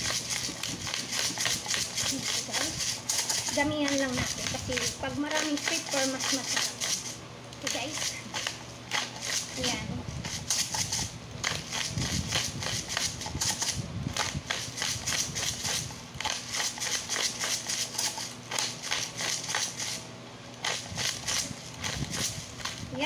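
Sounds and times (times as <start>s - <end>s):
pepper grinder crunching clicks: 0.0s - 9.6s, 10.2s - 20.0s, 20.6s - 22.8s.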